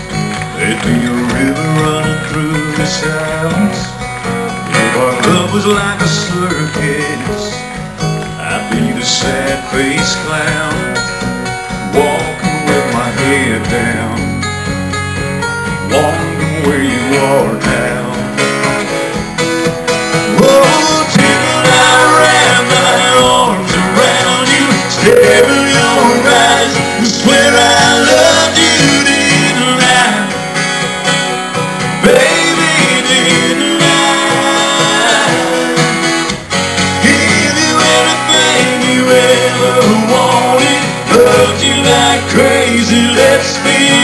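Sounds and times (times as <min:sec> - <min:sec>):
country music on acoustic guitars: 0:00.0 - 0:44.0.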